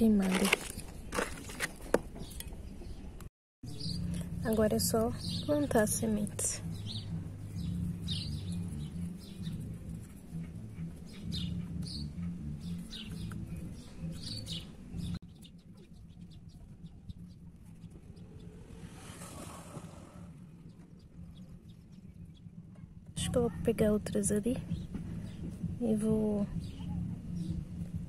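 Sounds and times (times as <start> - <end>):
small birds chirping: 0.0 - 28.0
low rumble: 3.6 - 15.2, 15.8 - 28.0.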